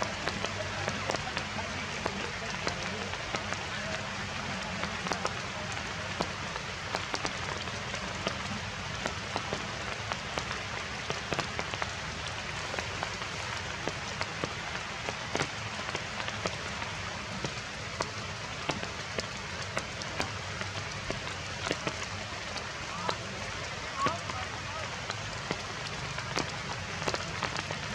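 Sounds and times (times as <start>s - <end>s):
heavy rain falling: 0.0s - 27.9s
sharp taps of raindrops: 0.0s - 27.9s.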